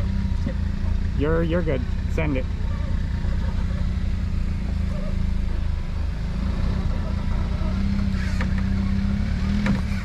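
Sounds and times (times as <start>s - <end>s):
off-road vehicle engine droning: 0.0s - 10.0s.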